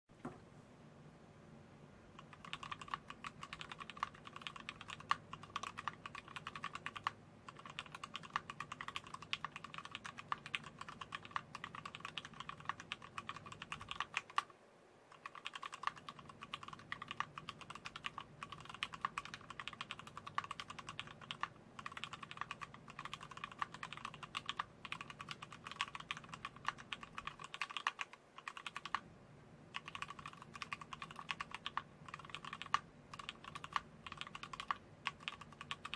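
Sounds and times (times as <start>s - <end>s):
mechanical keyboard typing: 2.2s - 14.5s, 15.1s - 29.0s, 29.7s - 35.9s.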